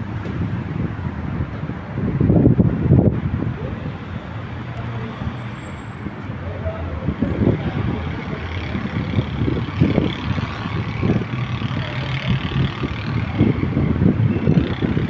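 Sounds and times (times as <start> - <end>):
road vehicle engines running: 0.0 - 15.0.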